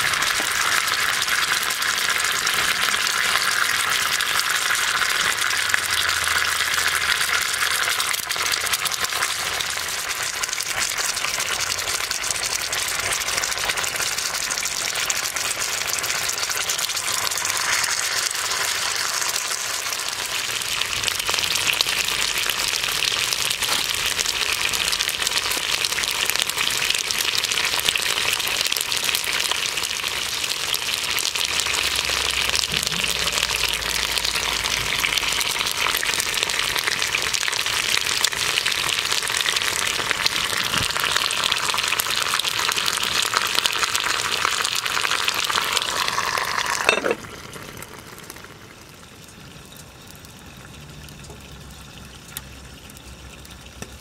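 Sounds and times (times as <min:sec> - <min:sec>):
food sizzling in a hot pan: 0:00.0 - 0:54.0.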